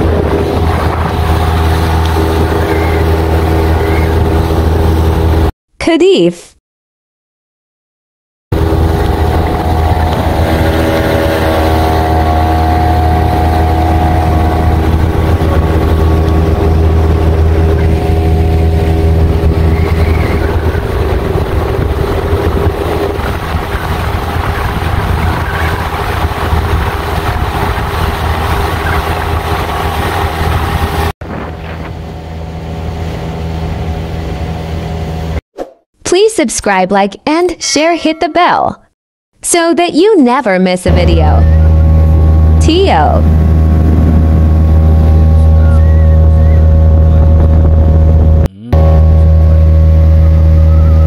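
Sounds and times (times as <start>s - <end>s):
outboard motor running: 0.0s - 5.5s, 8.5s - 35.4s, 40.9s - 51.0s
rush of moving boat: 0.0s - 5.5s, 8.5s - 35.4s, 40.9s - 51.0s.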